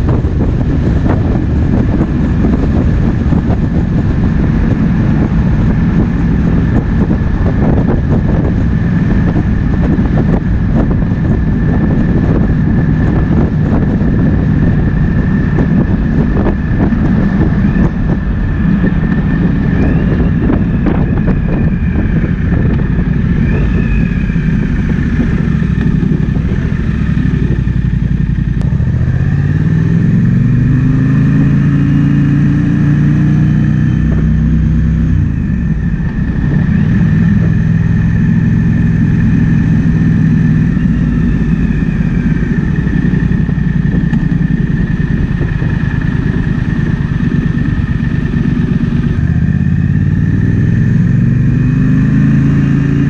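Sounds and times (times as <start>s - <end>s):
motorcycle engine revving: 0.0s - 53.0s
wind over microphone: 0.0s - 53.0s.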